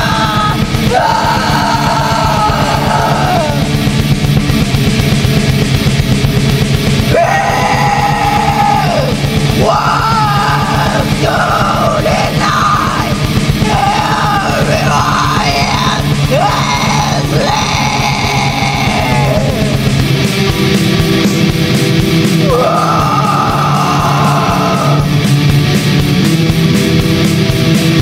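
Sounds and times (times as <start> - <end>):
harsh vocals: 0.0 - 26.0
distorted guitars: 0.0 - 28.0
fast dense drumming: 0.0 - 28.0.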